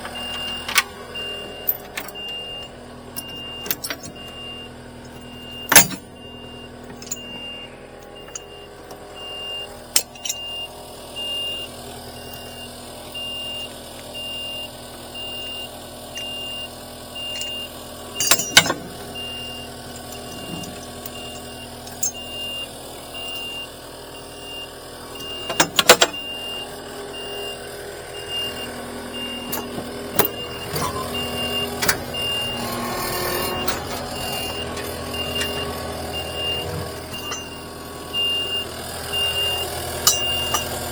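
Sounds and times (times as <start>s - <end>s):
electronic warning beep: 0.1s - 40.9s.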